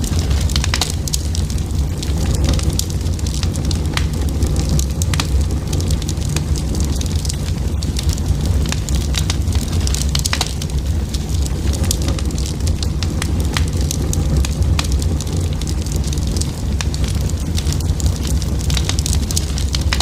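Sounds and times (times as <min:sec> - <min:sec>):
fire crackling and popping: 0:00.0 - 0:20.0
low rumble: 0:00.0 - 0:20.0.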